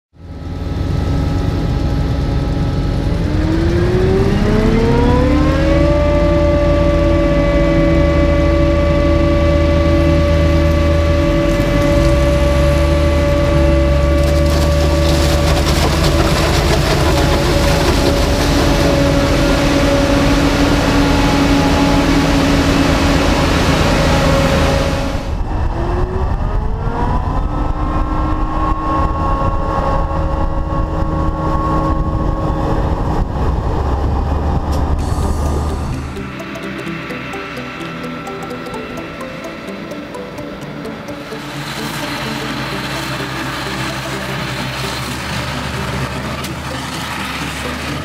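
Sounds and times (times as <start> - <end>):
deep machinery rumble: 0.1 - 48.0
multi-tone machine whine: 0.1 - 48.0.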